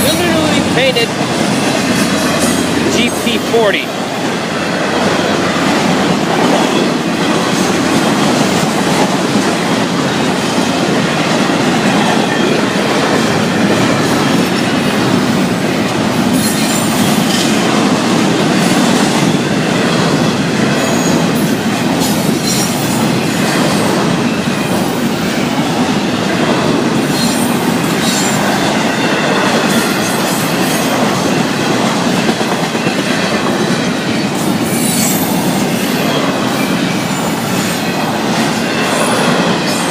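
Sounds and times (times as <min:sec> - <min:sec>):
steel wheels on rails: 0:00.0 - 0:39.9.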